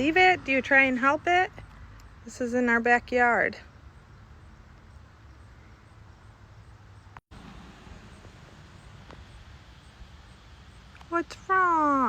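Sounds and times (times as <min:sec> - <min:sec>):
faint outdoor rumble: 0:00.0 - 0:12.0.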